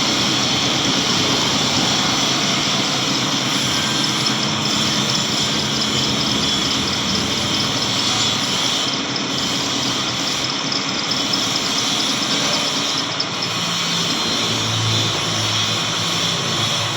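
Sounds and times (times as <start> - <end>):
steady mechanical noise: 0.0 - 16.9.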